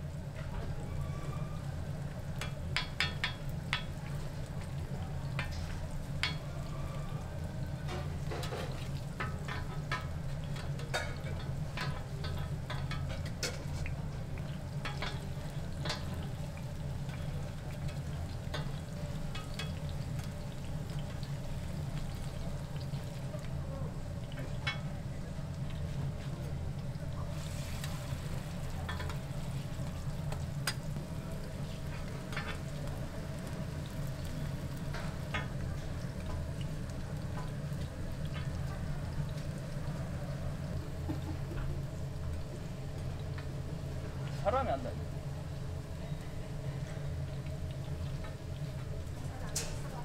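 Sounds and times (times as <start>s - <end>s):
pancakes sizzling on griddle: 0.0s - 50.0s.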